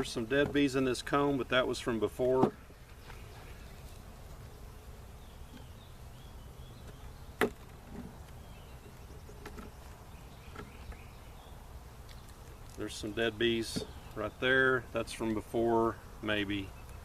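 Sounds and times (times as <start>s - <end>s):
bees buzzing: 2.6s - 17.0s.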